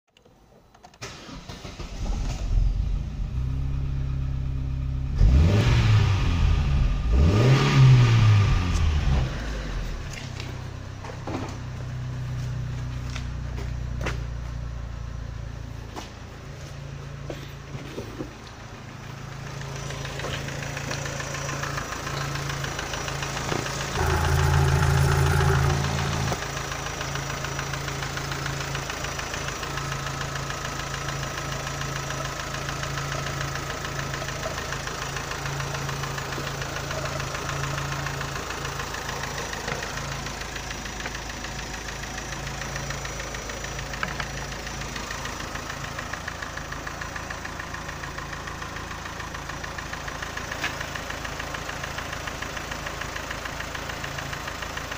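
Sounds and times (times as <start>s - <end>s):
car engine idling: 6.1s - 54.9s.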